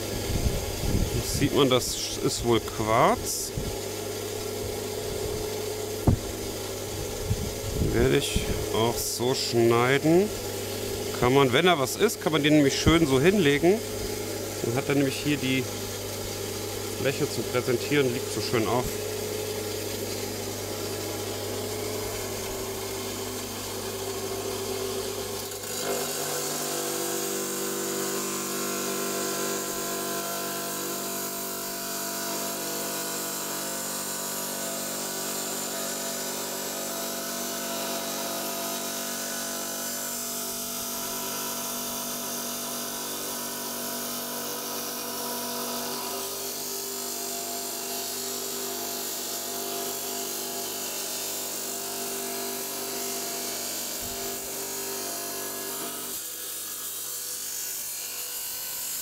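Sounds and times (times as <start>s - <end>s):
electric saw cutting stone: 0.0s - 59.0s.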